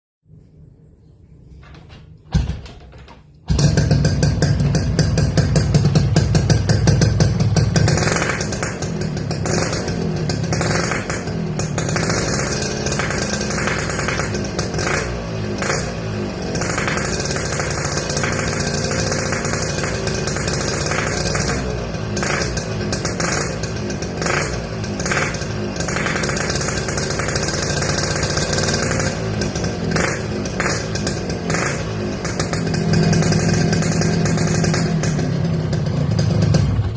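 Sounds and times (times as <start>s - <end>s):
motorcycle engine revving: 3.5s - 36.9s.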